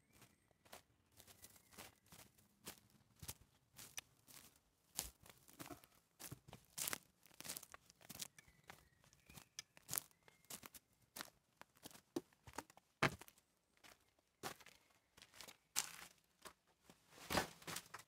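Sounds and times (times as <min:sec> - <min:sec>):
footsteps crunching on forest floor: 0:00.1 - 0:16.6.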